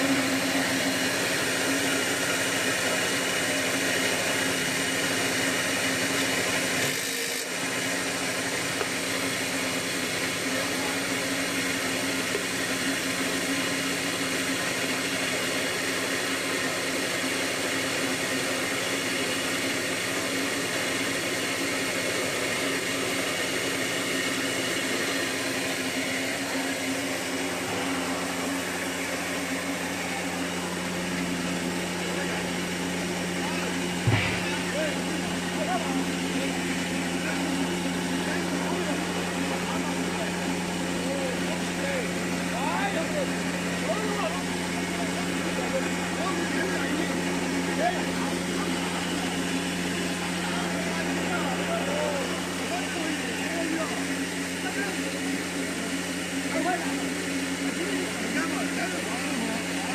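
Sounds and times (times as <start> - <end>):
rice mill machine whirring: 0.0 - 59.9.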